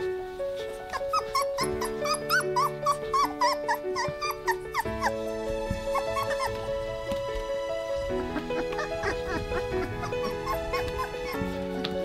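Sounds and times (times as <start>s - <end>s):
background music with held notes: 0.0s - 12.0s
puppies whimpering and squeaking: 0.4s - 12.0s.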